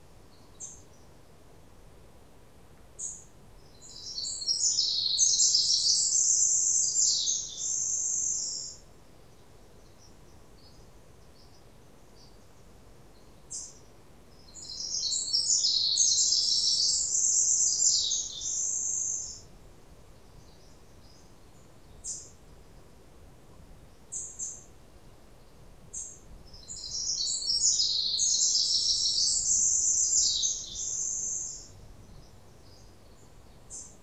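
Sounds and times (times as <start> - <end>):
songbird singing: 0.0 - 1.4, 3.0 - 34.0.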